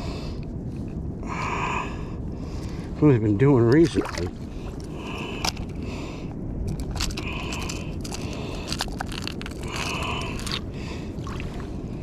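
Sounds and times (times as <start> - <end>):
low rumble of water and wind: 0.0 - 12.0.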